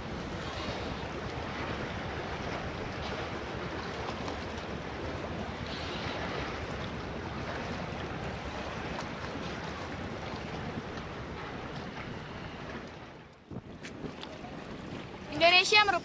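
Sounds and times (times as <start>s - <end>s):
sea wash: 0.0s - 16.0s
wind buffeting microphone: 0.0s - 16.0s.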